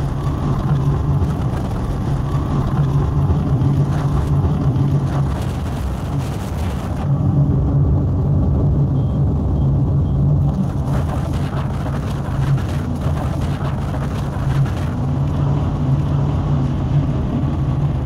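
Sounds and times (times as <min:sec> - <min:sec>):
outboard engine at high speed: 0:00.0 - 0:18.0
rushing wind: 0:00.0 - 0:18.0.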